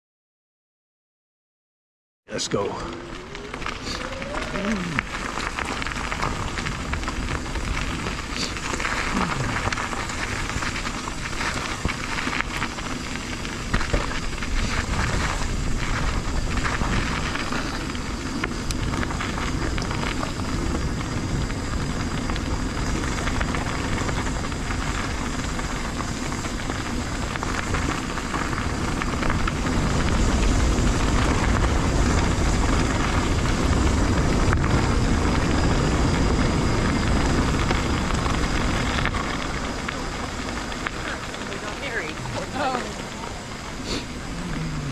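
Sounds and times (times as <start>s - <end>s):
wind rumbling on microphone: 2.4s - 44.9s
tyres crunching on gravel: 2.5s - 44.9s.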